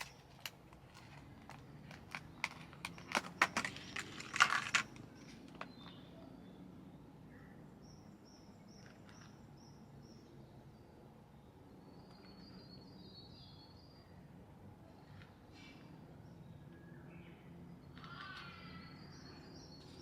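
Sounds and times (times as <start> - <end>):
faint birdsong: 0.0 - 20.0.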